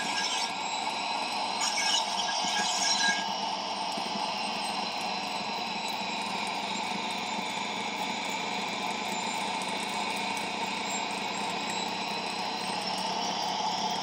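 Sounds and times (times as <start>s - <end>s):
turbine whine from small speaker: 0.0s - 14.0s.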